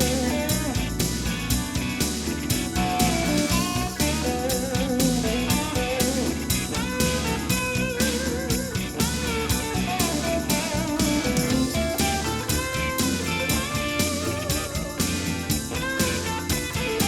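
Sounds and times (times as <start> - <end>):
bass: 0.0 - 17.0
drums keeping steady beat: 0.0 - 17.0
electric guitar blues lead: 0.0 - 17.0.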